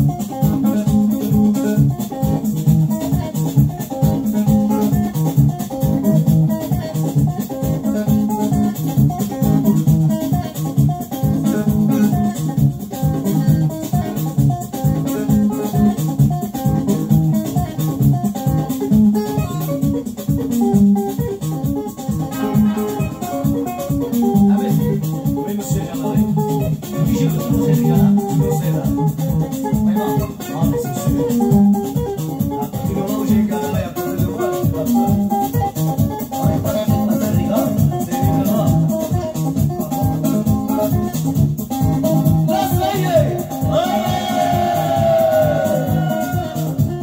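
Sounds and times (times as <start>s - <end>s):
bass guitar: 0.0s - 47.0s
drums: 0.0s - 47.0s
guitar lines: 0.0s - 47.0s
upbeat band music: 0.0s - 47.0s.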